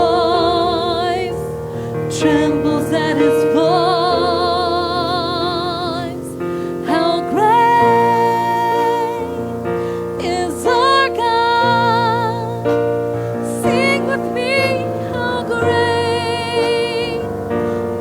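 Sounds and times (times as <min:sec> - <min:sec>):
piano and keyboard chords: 0:00.0 - 0:18.0
woman singing with vibrato: 0:00.0 - 0:18.0.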